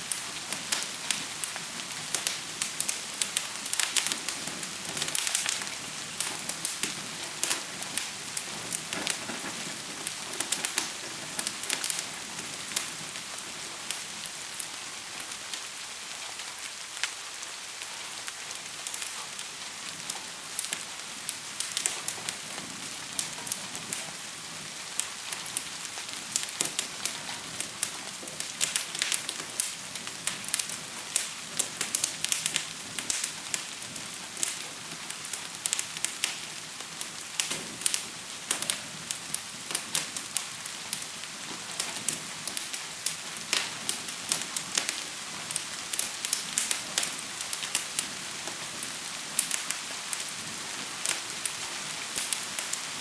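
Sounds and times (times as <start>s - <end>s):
gentle rain hiss: 0.0s - 53.0s
wood fire crackling: 0.0s - 53.0s.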